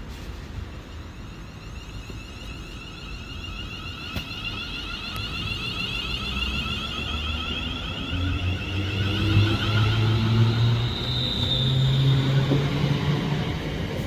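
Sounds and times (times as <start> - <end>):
wheels rumbling on rail: 0.0 - 14.0
electric train motor whine: 0.3 - 14.0.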